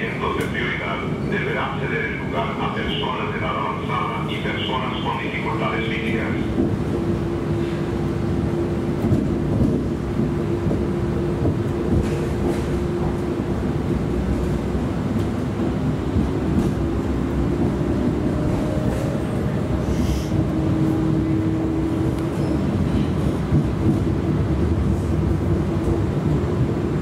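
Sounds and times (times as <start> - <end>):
train rolling rumble: 0.0 - 27.0.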